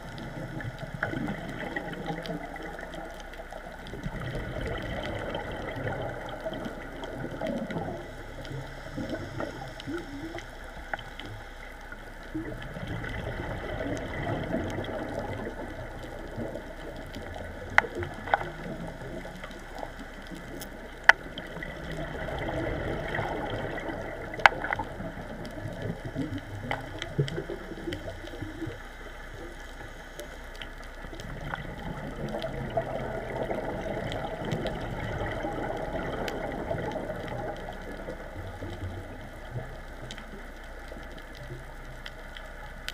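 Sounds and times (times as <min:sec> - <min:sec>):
sharp underwater clicks: 0:00.0 - 0:42.9
underwater water wash: 0:00.0 - 0:42.9.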